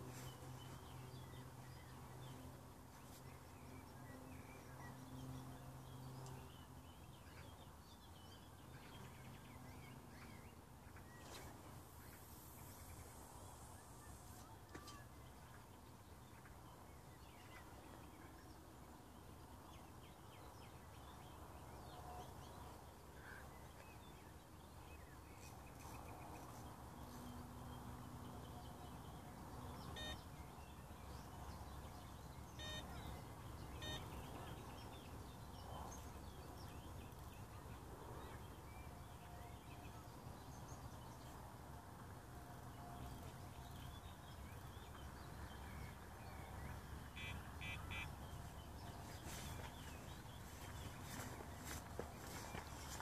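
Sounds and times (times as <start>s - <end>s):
distant bird calls: 0.0s - 41.4s, 42.5s - 53.0s.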